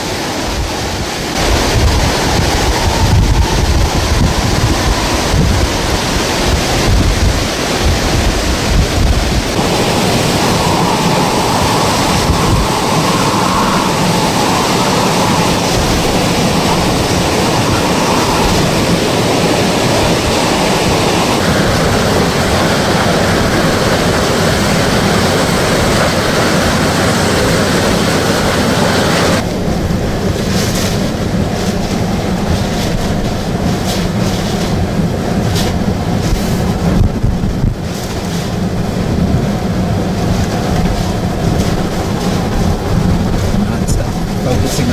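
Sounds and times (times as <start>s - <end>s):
driving rain: 0.0s - 44.9s
hurricane wind: 0.0s - 44.9s
wind buffeting microphone: 0.0s - 44.9s.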